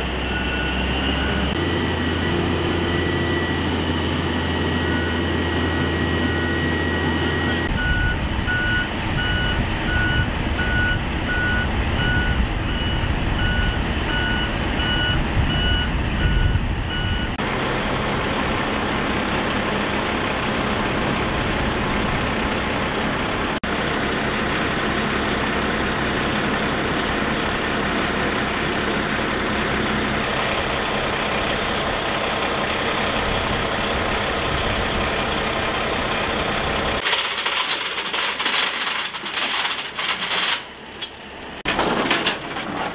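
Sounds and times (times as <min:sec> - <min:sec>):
truck reversing alarm beeping: 0:00.0 - 0:41.6
diesel truck engine running: 0:00.0 - 0:42.9.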